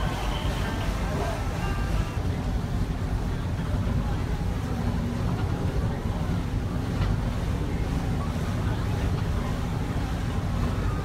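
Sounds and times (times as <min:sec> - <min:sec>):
churning paddle wheels: 0:00.0 - 0:11.0.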